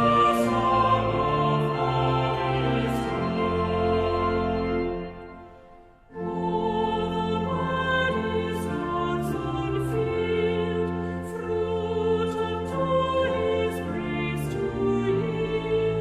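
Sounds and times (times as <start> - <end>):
church voices singing a hymn: 0.0 - 16.0
sustained chord accompaniment: 0.0 - 16.0.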